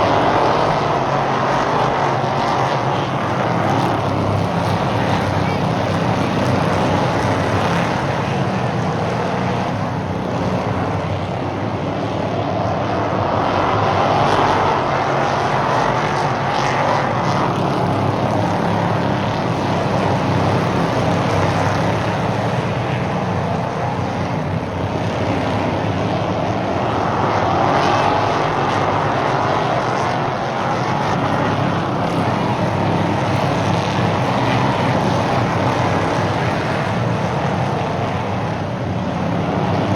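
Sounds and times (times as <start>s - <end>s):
race cars passing on track: 0.0s - 39.9s.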